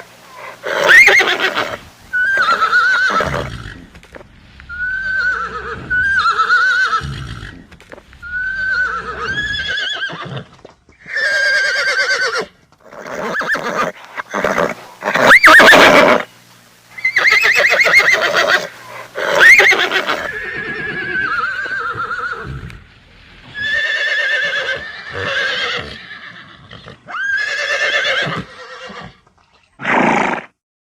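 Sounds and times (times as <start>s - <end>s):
horses neighing: 0.3s - 16.3s, 17.0s - 30.5s.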